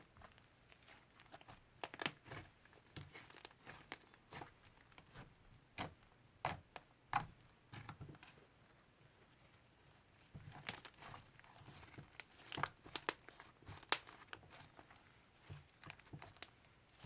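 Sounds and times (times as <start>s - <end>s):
hands squishing slime: 0.0s - 8.5s, 10.2s - 17.0s.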